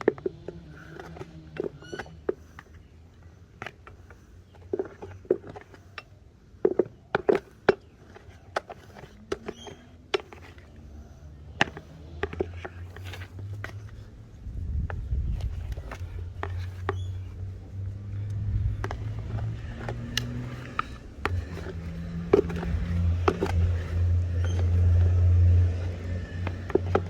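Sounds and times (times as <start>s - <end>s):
objects being handled and moved: 0.0s - 27.0s.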